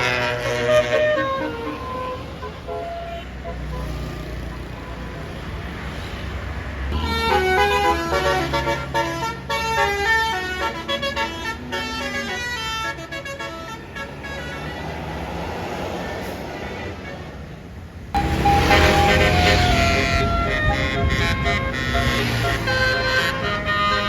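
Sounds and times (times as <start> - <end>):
multi-tone bus horn melody: 0.0 - 5.3, 6.9 - 17.4, 18.2 - 24.0
bus engine rumbling: 0.0 - 24.0.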